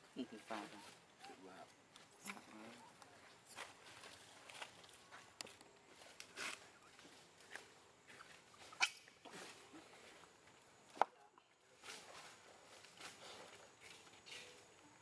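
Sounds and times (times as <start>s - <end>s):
monkeys scuffling on stone: 0.0s - 15.0s.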